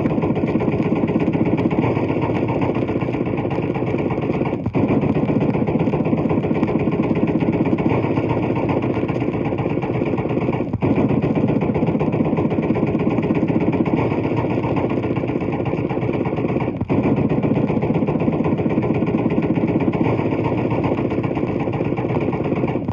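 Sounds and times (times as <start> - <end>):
machine-gun fire: 0.0 - 22.9.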